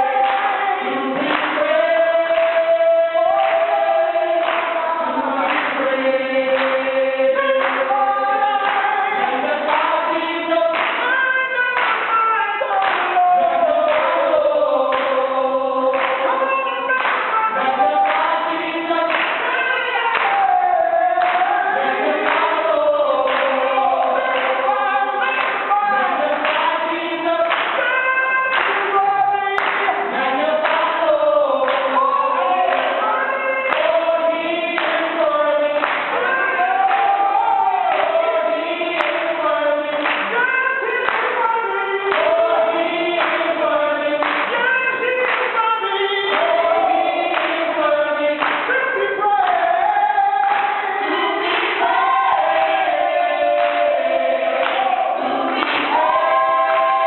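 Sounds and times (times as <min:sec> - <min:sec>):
group singing worship song: 0:00.0 - 0:57.0
musical accompaniment: 0:00.0 - 0:57.0.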